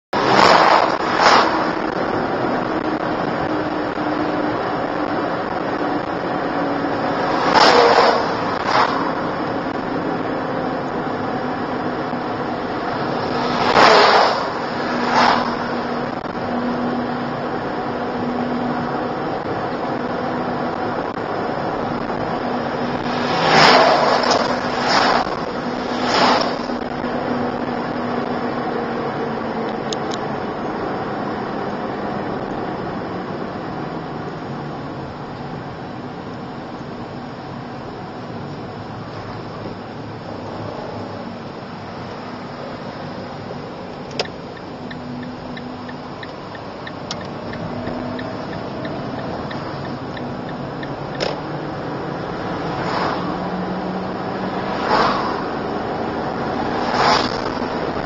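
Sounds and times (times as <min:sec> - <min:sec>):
car cabin road and engine noise: 0:00.0 - 0:58.0
passing vehicle whoosh: 0:00.2 - 0:33.7, 0:38.3 - 0:58.0.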